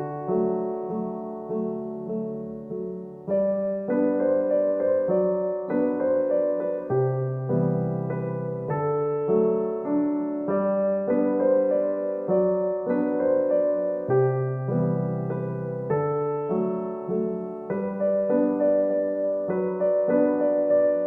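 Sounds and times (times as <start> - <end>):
solo piano piece: 0.0 - 21.0.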